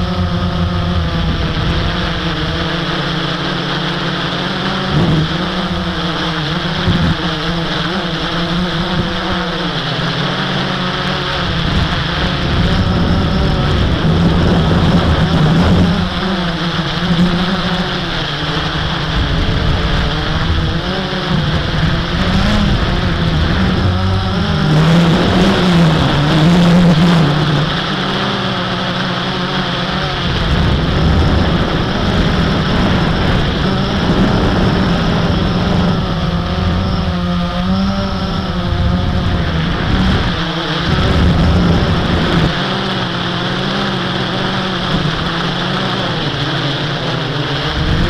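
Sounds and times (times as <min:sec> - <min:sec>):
quadcopter propellers buzzing: 0:00.0 - 0:48.0.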